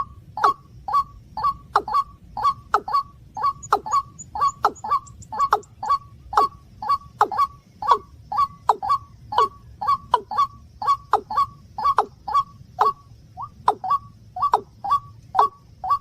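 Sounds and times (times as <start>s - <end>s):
low steady hum: 0.0s - 16.0s
rail bird calls: 0.0s - 16.0s.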